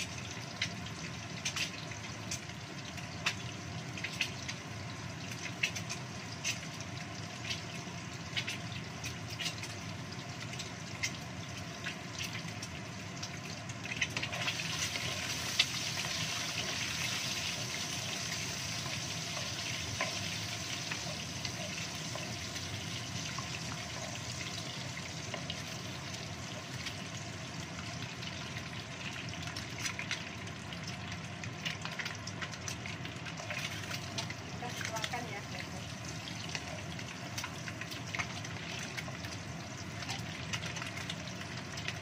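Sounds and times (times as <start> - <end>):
eggs sizzling in hot oil: 0.0 - 42.0.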